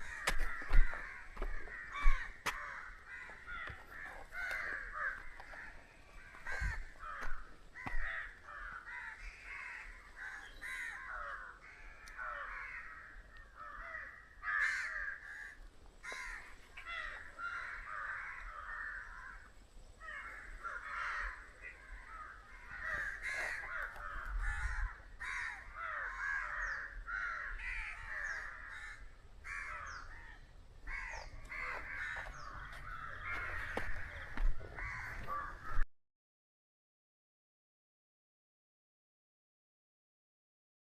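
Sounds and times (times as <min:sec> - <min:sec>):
crows cawing: 0:00.0 - 0:35.8.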